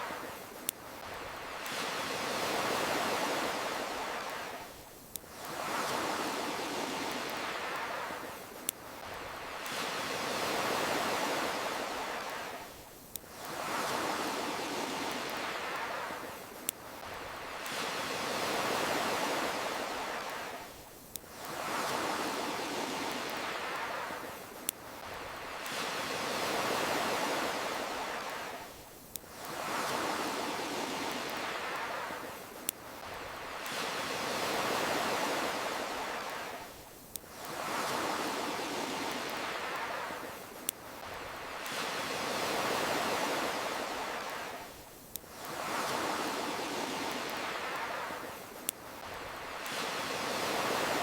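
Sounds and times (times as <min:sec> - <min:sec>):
ocean surf washing: 0:00.0 - 0:51.0.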